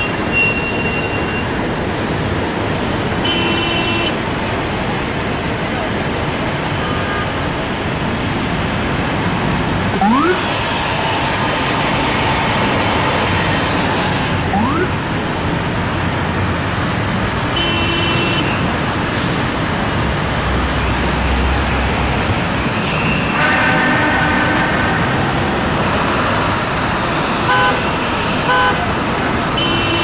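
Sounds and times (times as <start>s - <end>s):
traffic engines and tyres: 0.0s - 30.0s.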